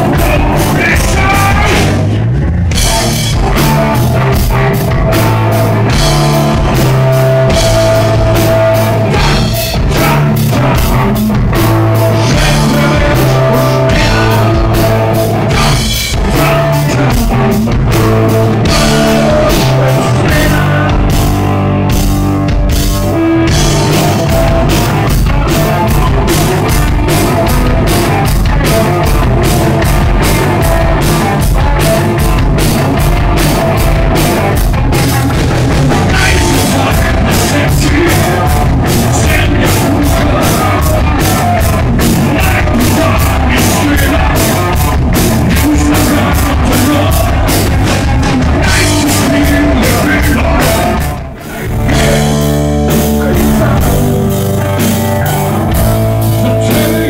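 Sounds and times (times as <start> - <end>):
drum kit beat: 0.0 - 57.0
electric guitar: 0.0 - 57.0.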